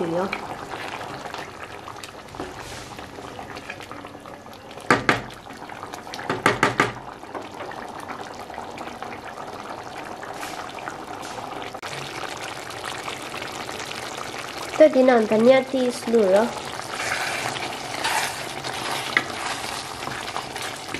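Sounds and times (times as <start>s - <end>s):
curry bubbling in a pot: 0.0s - 20.9s.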